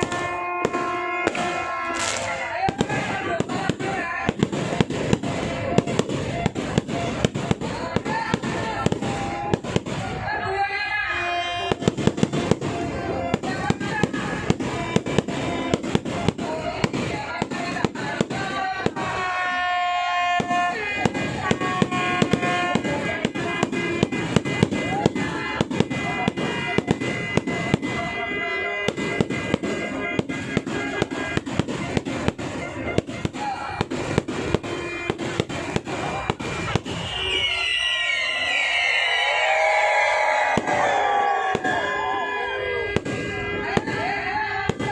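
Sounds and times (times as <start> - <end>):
fireworks banging: 0.0 - 44.9.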